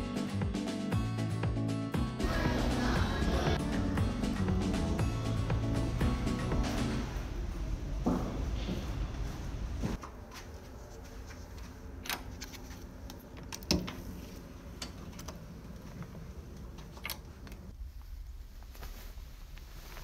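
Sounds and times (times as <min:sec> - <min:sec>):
low hum of ship engines: 0:03.7 - 0:20.0.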